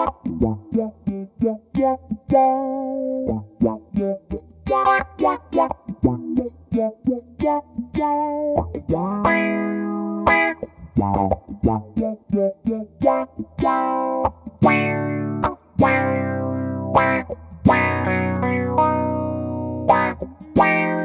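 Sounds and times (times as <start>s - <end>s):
electric guitar notes and chords: 0.0s - 21.0s.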